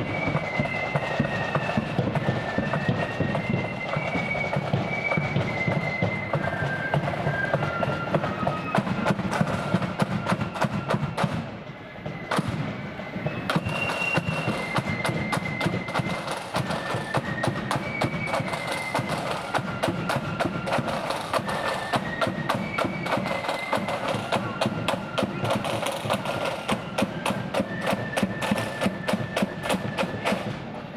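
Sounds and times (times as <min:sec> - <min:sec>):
shrill flute melody: 0:00.0 - 0:30.9.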